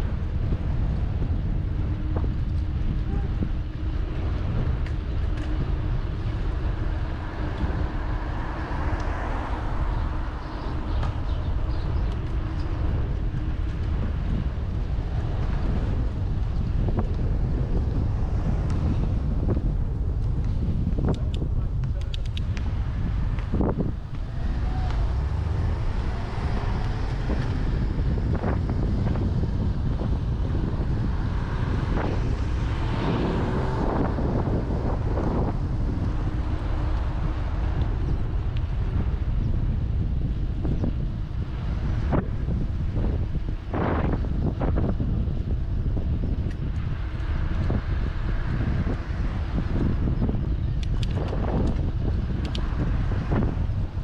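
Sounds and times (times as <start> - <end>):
faint road noise: 0.0 - 54.0
wind buffeting microphone: 0.0 - 54.0.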